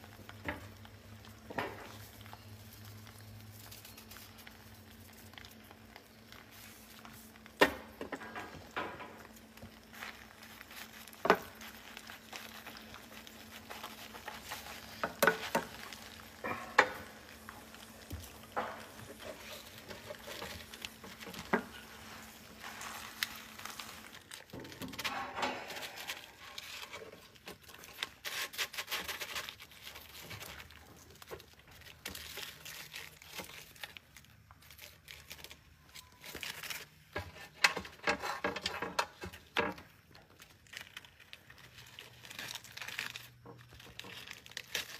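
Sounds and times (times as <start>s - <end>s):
aluminium foil crinkling: 0.0s - 44.9s.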